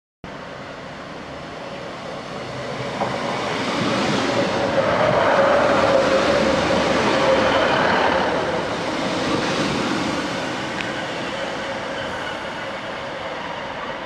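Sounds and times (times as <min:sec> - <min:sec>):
diesel train passing: 0:00.3 - 0:14.0.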